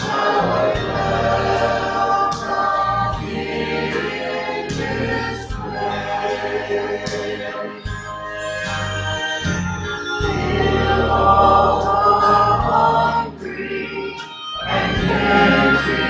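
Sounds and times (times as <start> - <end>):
choir singing a hymn: 0.0 - 8.0, 10.2 - 16.0.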